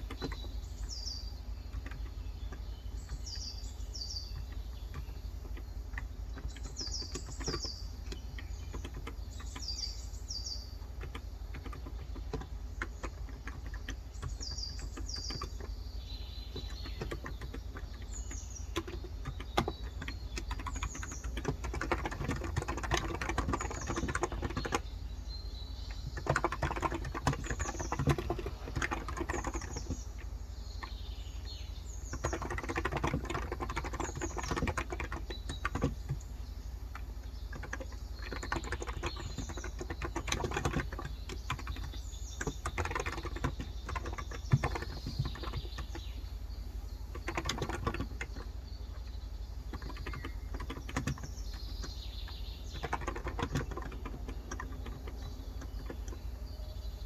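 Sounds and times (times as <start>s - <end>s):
small birds chirping: 0.0s - 57.0s
keyboard typing: 4.2s - 10.0s, 10.7s - 15.9s, 16.5s - 25.1s, 25.8s - 46.2s, 47.1s - 57.0s.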